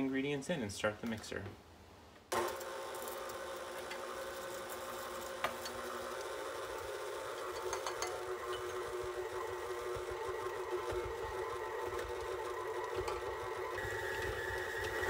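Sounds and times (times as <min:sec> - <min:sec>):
stand mixer motor hum: 0:02.3 - 0:15.0.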